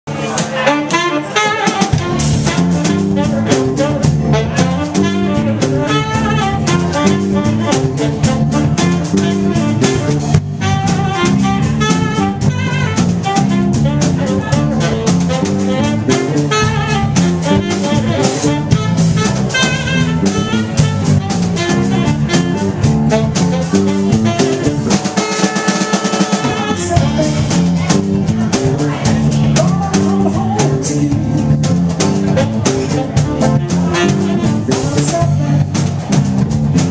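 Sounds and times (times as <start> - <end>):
drum kit: 0.1 - 36.9
saxophone: 0.2 - 36.1.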